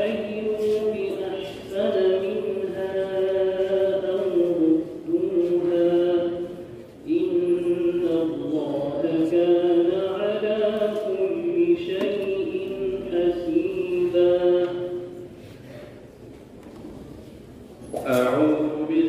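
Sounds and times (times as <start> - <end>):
man chanting melodically: 0.0 - 15.4, 18.0 - 19.0.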